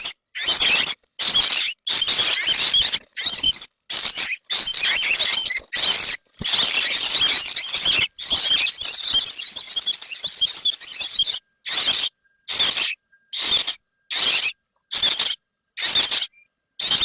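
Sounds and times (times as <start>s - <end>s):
baby birds chirping: 0.0s - 17.0s.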